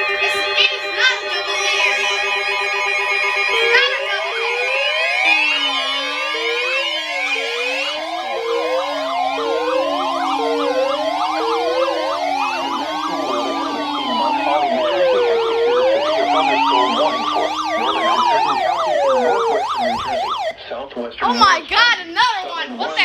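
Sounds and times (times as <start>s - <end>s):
steady high siren tone: 0.0s - 21.5s, 22.2s - 23.0s
electronic sirens wailing: 0.0s - 23.0s.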